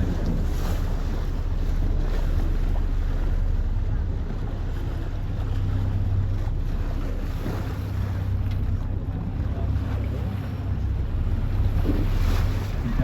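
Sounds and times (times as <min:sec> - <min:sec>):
motorboat engine droning: 0:00.0 - 0:13.0
wind buffeting microphone: 0:00.0 - 0:13.0.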